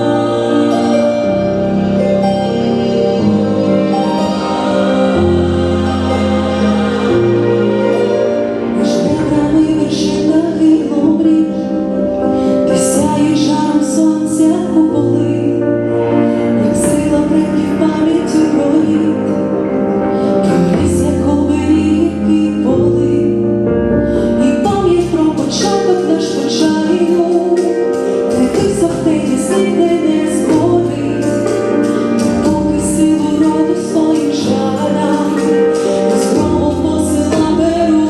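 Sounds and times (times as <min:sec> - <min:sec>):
woman singing: 0:00.0 - 0:02.1, 0:03.1 - 0:19.8, 0:20.4 - 0:38.0
instrumental accompaniment: 0:00.0 - 0:38.0.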